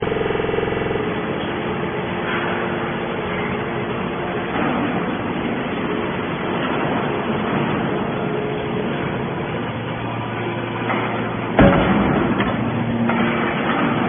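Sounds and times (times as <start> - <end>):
electric motor and pump running: 0.0 - 14.0.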